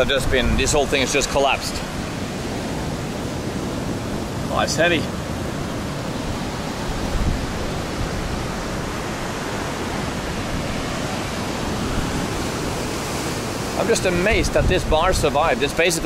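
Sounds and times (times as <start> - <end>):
heavy surf on beach: 0.0 - 16.0
strong wind: 0.0 - 16.0.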